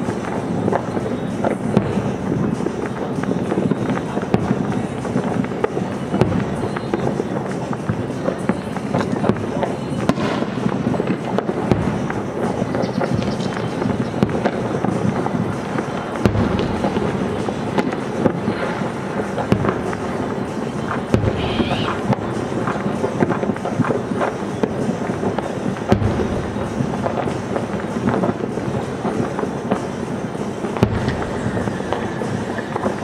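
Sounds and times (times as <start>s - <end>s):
firework bangs: 0.0s - 33.0s.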